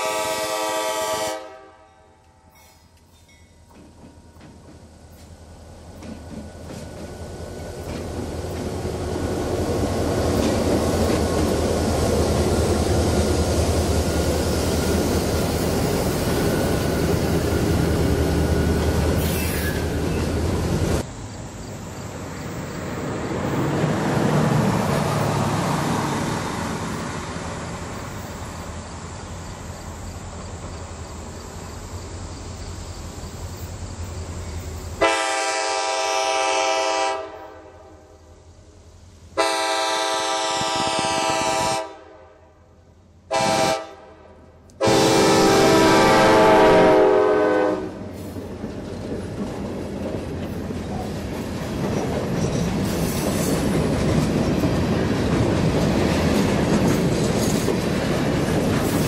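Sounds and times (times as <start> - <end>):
diesel locomotive approaching: 0.0 - 59.0
freight train rumbling past: 0.0 - 59.0.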